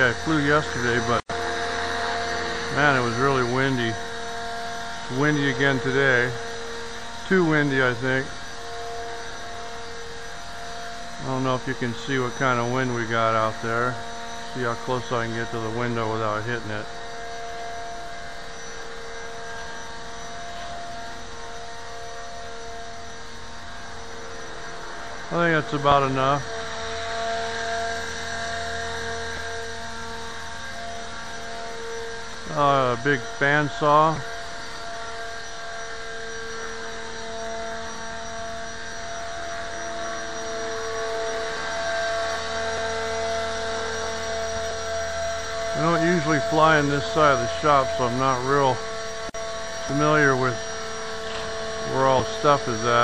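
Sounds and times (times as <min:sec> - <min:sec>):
small aircraft motor whine: 0:00.0 - 0:53.0.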